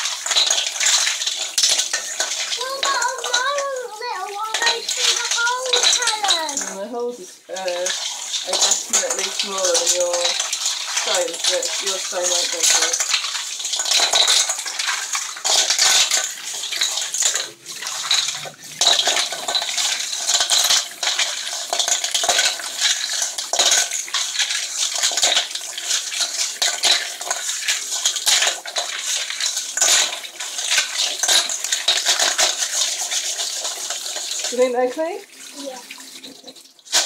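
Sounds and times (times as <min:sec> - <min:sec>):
stones clattering in metal colander: 0:00.0 - 0:03.7, 0:04.3 - 0:06.9, 0:07.5 - 0:35.2
running tap water splashing: 0:00.0 - 0:37.0.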